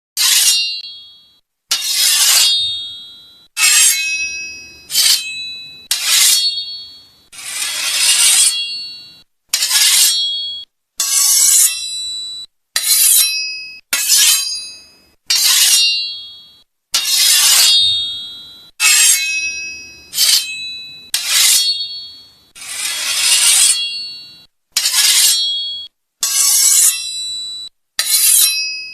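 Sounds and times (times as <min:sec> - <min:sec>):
sword blade being sharpened: 0:00.2 - 0:01.0, 0:01.7 - 0:03.0, 0:03.6 - 0:12.0, 0:12.8 - 0:16.2, 0:17.0 - 0:28.9.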